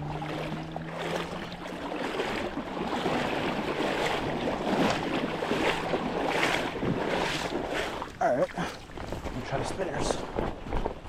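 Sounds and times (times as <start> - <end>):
creek water rushing: 0.0 - 10.3.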